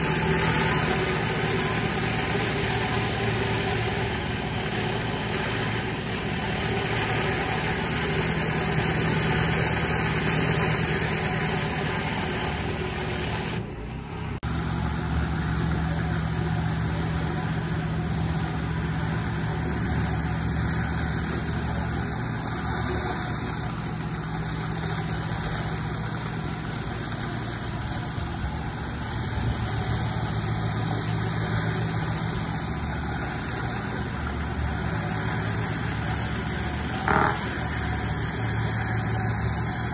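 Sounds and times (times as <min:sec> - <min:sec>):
water jets hissing on wet stone: 0:00.0 - 0:13.6, 0:14.5 - 0:39.9
pressure washer engine running: 0:00.0 - 0:39.9.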